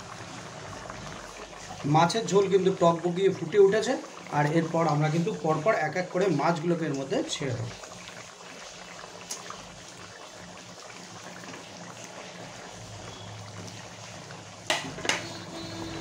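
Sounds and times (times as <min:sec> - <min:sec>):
gravy boiling and bubbling: 0:00.0 - 0:16.0.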